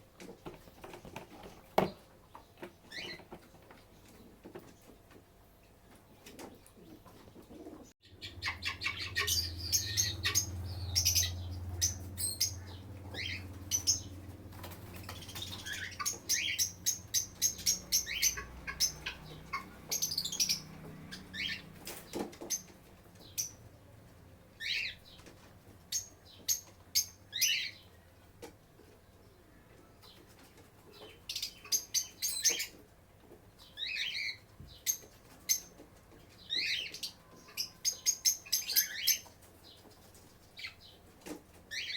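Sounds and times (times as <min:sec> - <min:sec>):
birds chirping: 0:00.4 - 0:41.9.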